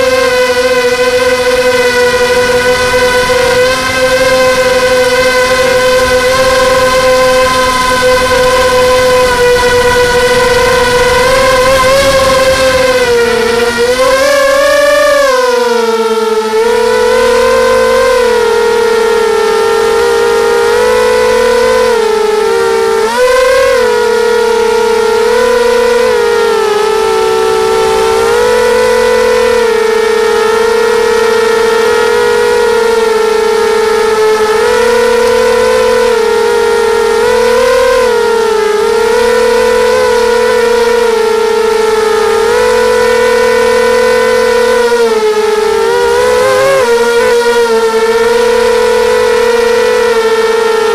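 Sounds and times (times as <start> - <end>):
quadcopter motors whining: 0.0 - 50.9.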